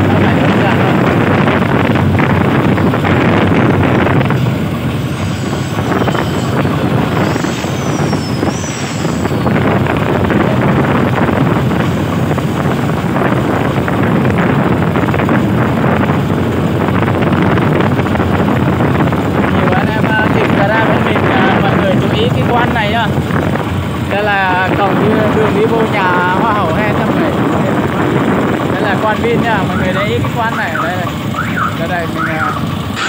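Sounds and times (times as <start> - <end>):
farm vehicle engine running: 0.0 - 33.0
road noise: 0.0 - 33.0.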